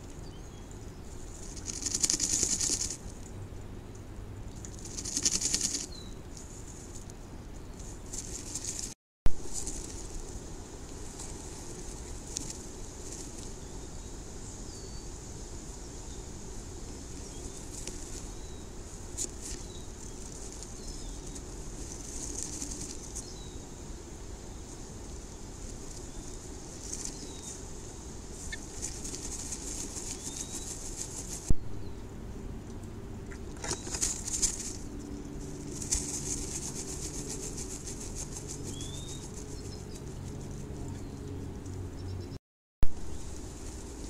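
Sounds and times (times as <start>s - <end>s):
steady low hum: 0.0s - 44.0s
dry grass and feathers rustling: 0.9s - 3.3s, 4.6s - 14.3s, 15.5s - 32.0s, 33.5s - 41.7s, 43.0s - 44.0s.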